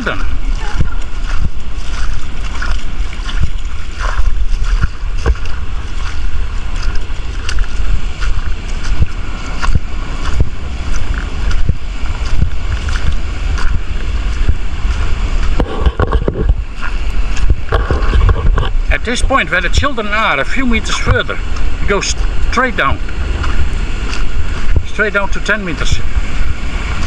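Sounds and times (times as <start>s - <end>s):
rough surf: 0.0s - 27.0s
wind buffeting microphone: 0.0s - 27.0s.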